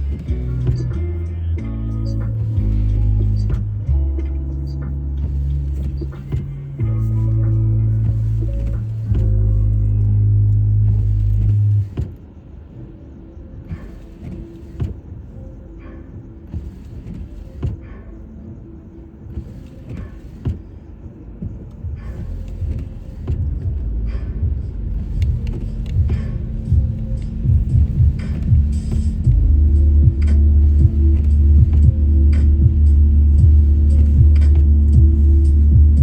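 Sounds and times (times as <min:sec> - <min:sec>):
road rumble inside car: 0:00.0 - 0:36.0.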